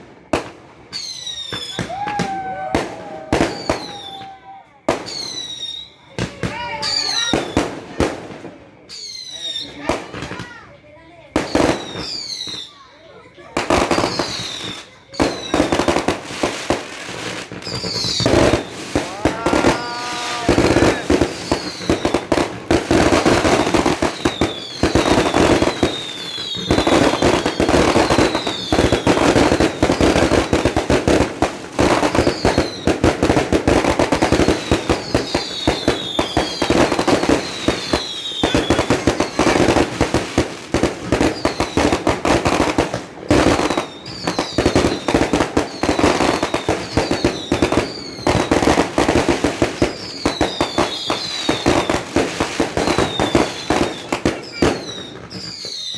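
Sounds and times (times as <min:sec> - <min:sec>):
falling firework whistles: 0:00.0 - 0:07.8, 0:08.9 - 0:09.8, 0:11.5 - 0:13.0, 0:14.0 - 0:30.9, 0:31.8 - 0:42.8, 0:43.4 - 0:49.2, 0:49.8 - 0:52.1, 0:52.7 - 0:55.9
fireworks crackling and popping: 0:00.0 - 0:55.9.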